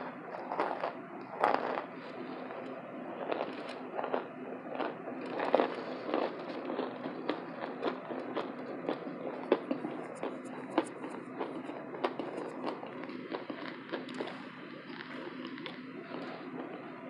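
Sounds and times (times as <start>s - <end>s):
crisp chewing crunches: 0.3s - 16.9s.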